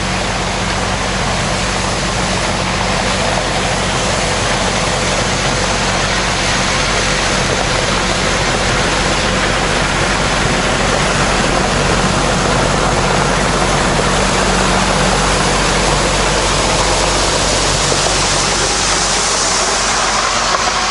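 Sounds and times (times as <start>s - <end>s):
strong rushing noise: 0.0s - 20.9s
tractor engine running: 0.0s - 20.9s.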